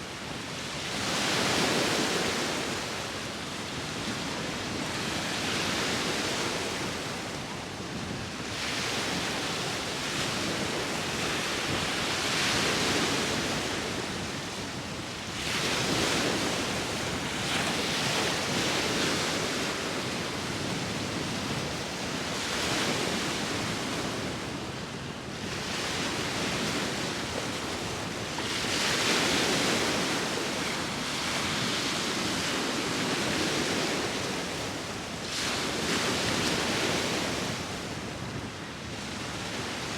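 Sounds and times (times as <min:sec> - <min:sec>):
sea waves breaking on shore: 0:00.0 - 0:39.9
wind: 0:00.0 - 0:39.9.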